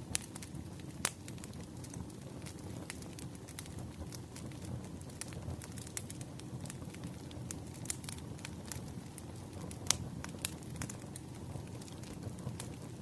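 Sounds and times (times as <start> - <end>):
burning firewood crackling: 0.0 - 13.0.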